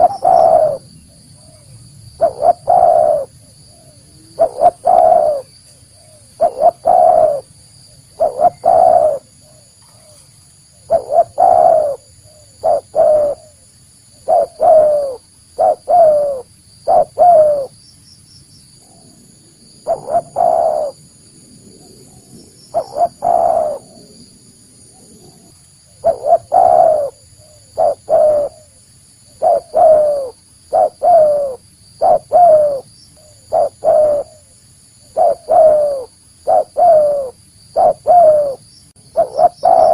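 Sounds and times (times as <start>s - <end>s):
dove cooing: 0.0s - 7.5s, 8.1s - 17.8s, 19.8s - 21.0s, 21.8s - 24.3s, 24.9s - 39.9s.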